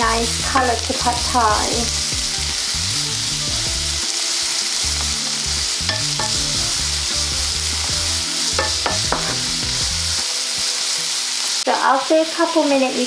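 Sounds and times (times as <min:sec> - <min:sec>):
carrots sizzling in oil: 0:00.0 - 0:13.0.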